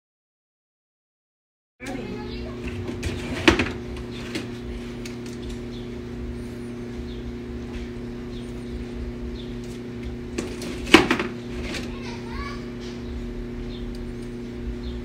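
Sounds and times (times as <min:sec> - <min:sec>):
low electrical hum: 0:01.8 - 0:15.0.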